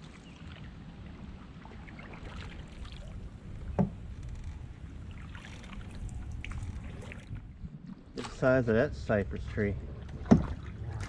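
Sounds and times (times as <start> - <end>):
paddle splashes and drips: 0.0 - 11.0.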